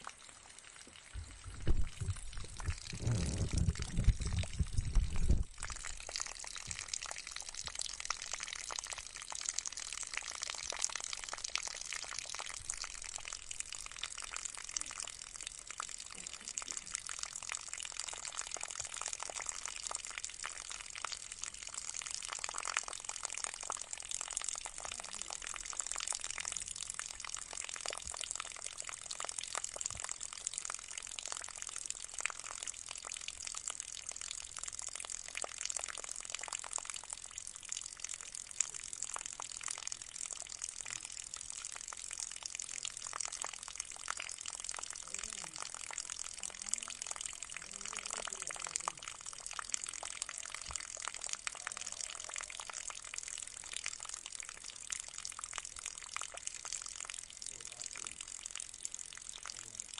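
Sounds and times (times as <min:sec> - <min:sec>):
fountain water trickling and splashing: 0:00.0 - 0:59.9.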